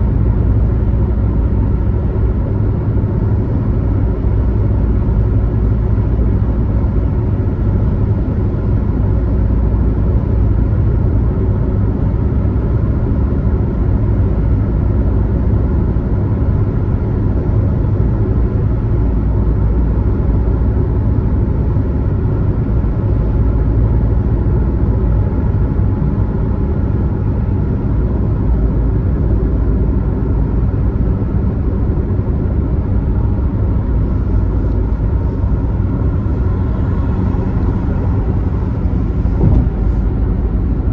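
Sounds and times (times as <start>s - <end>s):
car driving at highway speed: 0.0s - 40.9s.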